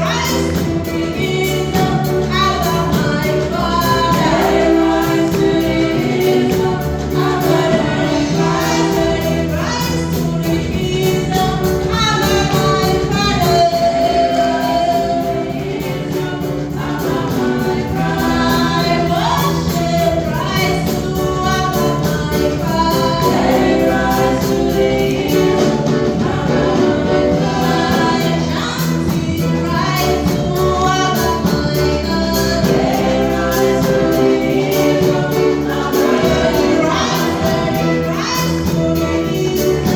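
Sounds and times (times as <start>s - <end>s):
choir singing: 0.0s - 39.9s
instrumental backing: 0.0s - 39.9s.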